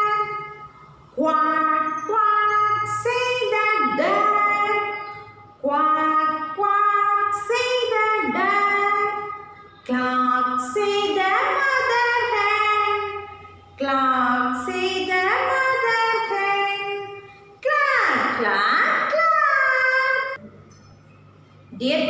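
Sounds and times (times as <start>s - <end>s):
woman singing unaccompanied: 0.0s - 0.6s, 1.2s - 20.4s.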